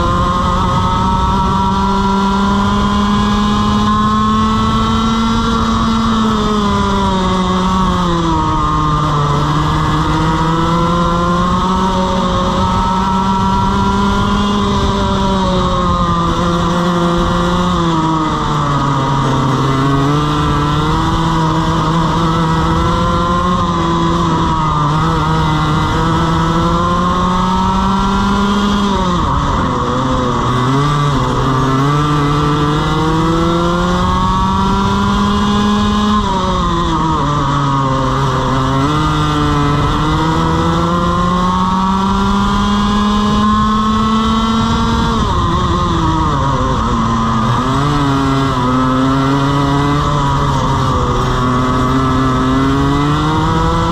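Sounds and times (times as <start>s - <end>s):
kart engine running hard: 0.0s - 53.9s.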